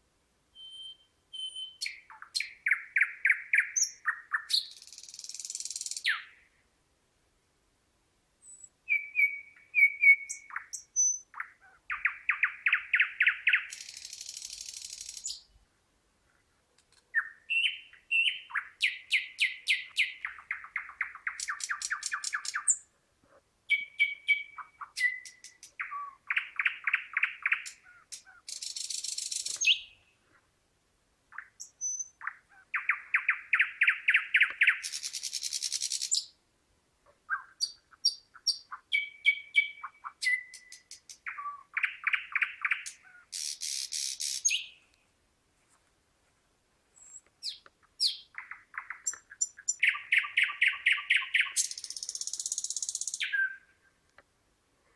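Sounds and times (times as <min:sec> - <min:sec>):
bird singing: 0:00.6 - 0:06.6, 0:08.4 - 0:15.6, 0:17.1 - 0:22.9, 0:23.7 - 0:30.2, 0:31.3 - 0:36.4, 0:37.3 - 0:45.0, 0:47.0 - 0:54.0.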